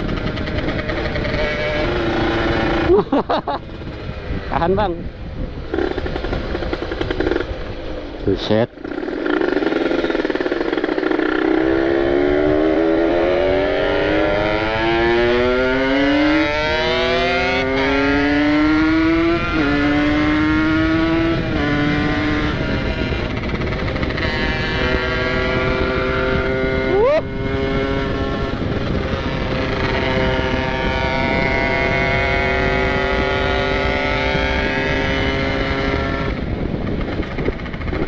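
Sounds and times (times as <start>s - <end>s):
motorcycle engine shifting gears: 0.0s - 3.0s, 5.6s - 38.0s.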